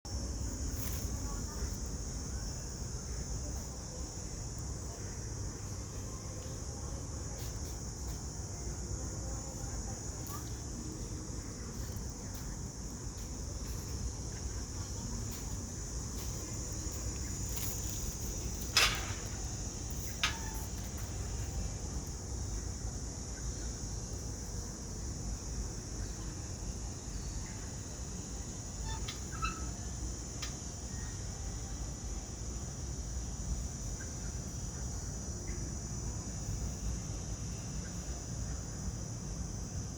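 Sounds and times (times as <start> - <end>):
insects chirring: 0.1 - 39.9.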